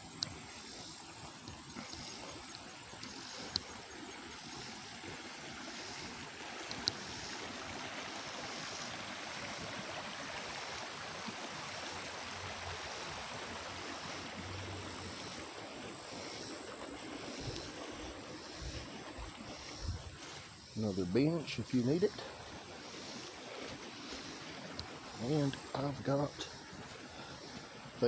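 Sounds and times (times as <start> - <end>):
creek water flowing: 0.0 - 28.0.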